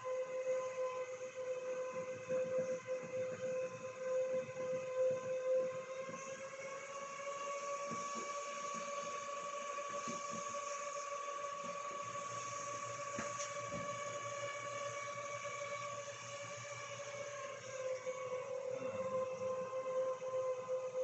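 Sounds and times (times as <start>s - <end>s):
washing machine motor whining: 2.5s - 21.0s.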